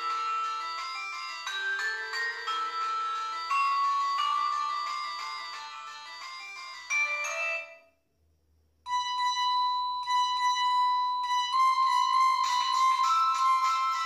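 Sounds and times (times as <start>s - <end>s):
phone ringtone through small speaker: 0.0s - 8.0s, 8.9s - 14.0s.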